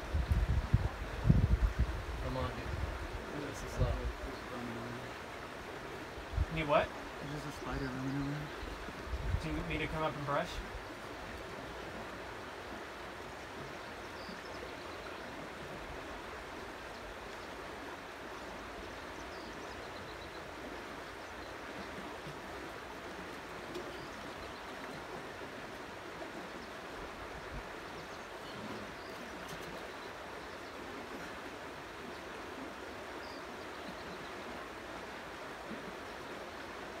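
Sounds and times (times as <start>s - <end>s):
rushing outdoor background noise: 0.0s - 37.0s.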